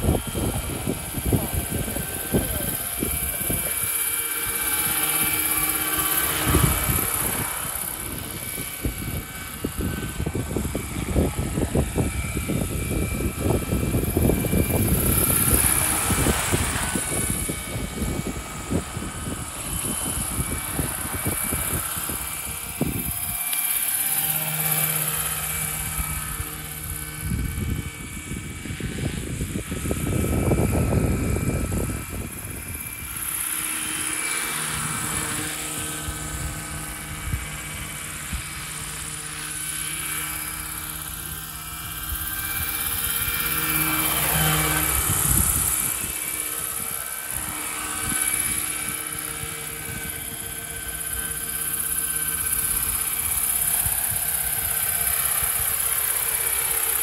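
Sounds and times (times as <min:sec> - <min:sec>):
helicopter drive whine: 0:00.0 - 0:57.0
model helicopter rotor chopping: 0:00.0 - 0:57.0.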